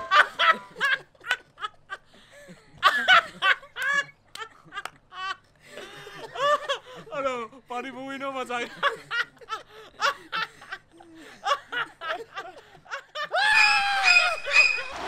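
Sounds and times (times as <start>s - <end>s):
group of people laughing: 0.0s - 7.2s, 8.6s - 15.0s.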